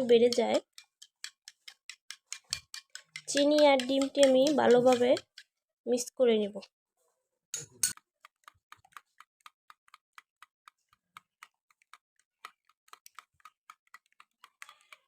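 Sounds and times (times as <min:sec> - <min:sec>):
utensil clicking against bowl: 0:00.0 - 0:05.5, 0:07.6 - 0:15.0.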